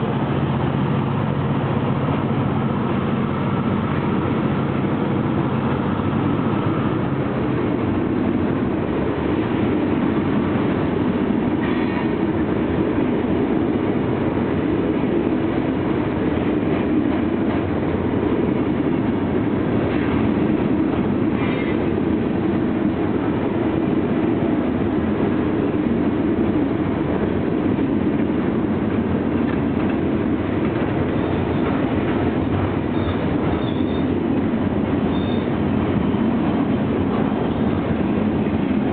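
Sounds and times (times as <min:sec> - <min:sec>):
freight train wheels on rails: 0:00.0 - 0:38.9.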